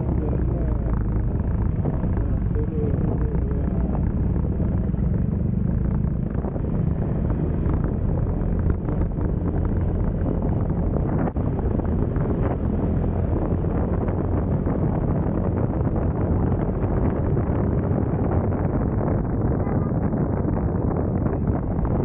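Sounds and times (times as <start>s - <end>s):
rush of air and road noise: 0.0s - 22.0s
scooter engine droning: 0.0s - 22.0s.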